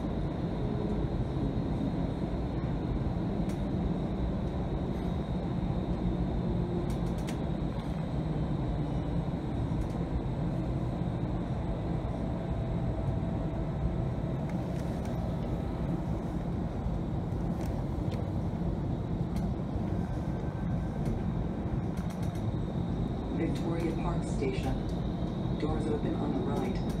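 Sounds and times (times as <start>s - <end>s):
light rail cabin rumble: 0.0s - 27.0s.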